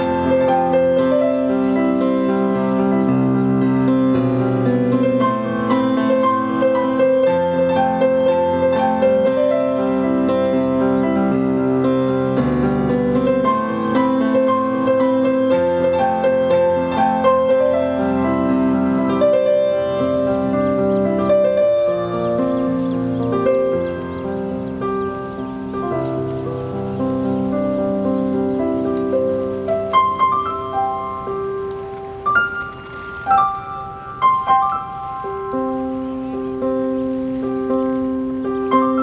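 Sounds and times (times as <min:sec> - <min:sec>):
grand piano playing slow chords: 0:00.0 - 0:39.0.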